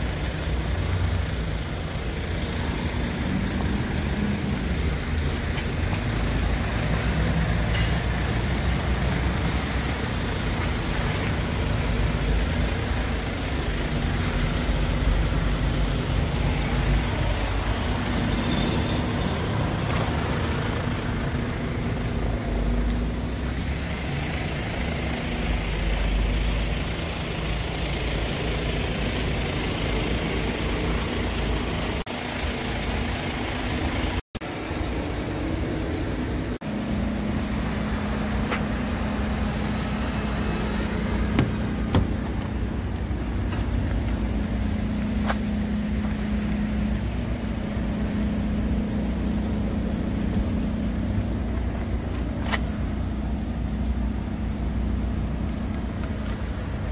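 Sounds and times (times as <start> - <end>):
truck diesel engine idling: 0.0 - 34.2, 34.8 - 56.9.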